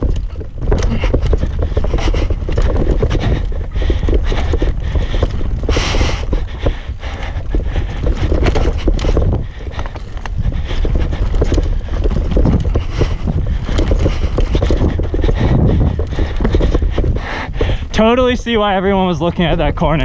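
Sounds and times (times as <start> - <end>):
bike clattering over rough trail: 0.0 - 20.0
wind rumble on microphone: 0.0 - 20.0.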